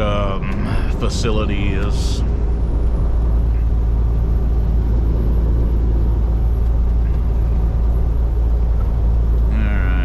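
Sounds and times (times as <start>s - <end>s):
diesel engine rumble: 0.0s - 10.0s
road noise: 0.0s - 10.0s.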